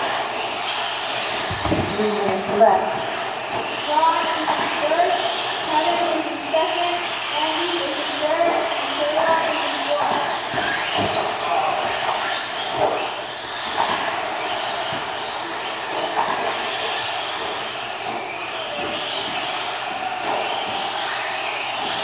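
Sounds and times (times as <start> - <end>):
rc truck motors whining: 0.0 - 22.0.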